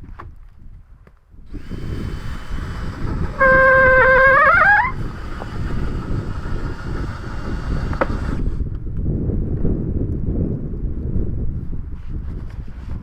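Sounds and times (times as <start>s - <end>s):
blizzard wind rushing: 1.4s - 13.0s
loud horn-like wind howl: 1.5s - 13.0s.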